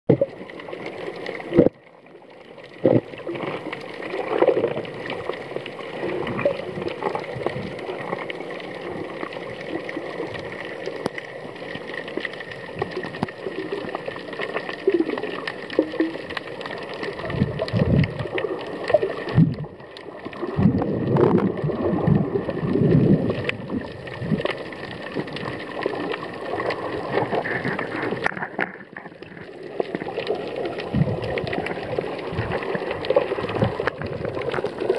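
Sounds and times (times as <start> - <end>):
bubbling gurgles: 0.1 - 34.9
water sloshing underwater: 0.1 - 34.9.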